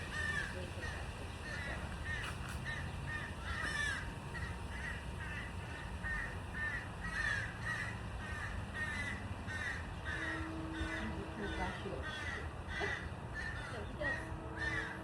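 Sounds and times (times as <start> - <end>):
birds calling: 0.0 - 15.0
low background rumble: 0.0 - 15.0.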